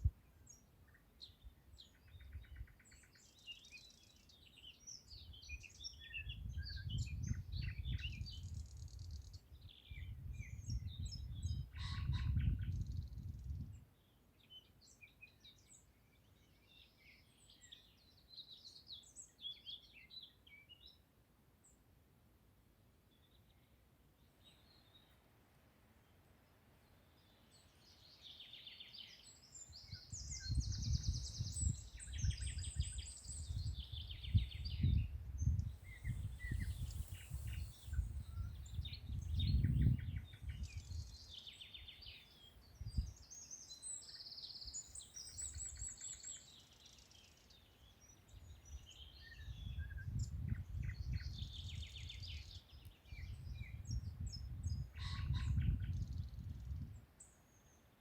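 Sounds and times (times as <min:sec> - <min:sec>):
songbirds singing: 0:00.0 - 0:21.9, 0:23.1 - 0:25.2, 0:26.0 - 0:58.0.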